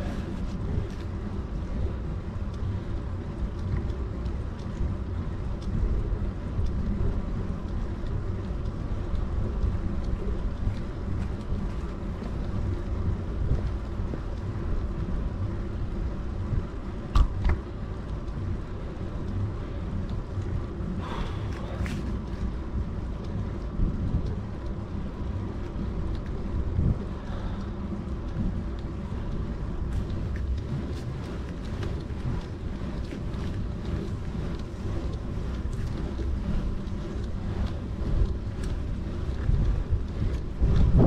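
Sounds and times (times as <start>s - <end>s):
bicycle tyre noise on road: 0.0s - 41.0s
wind buffeting microphone: 0.0s - 41.0s.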